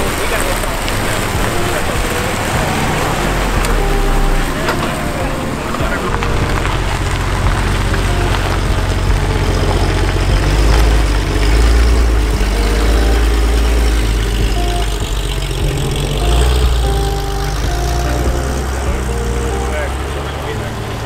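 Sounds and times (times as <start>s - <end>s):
car engine at low revs: 0.0s - 21.0s.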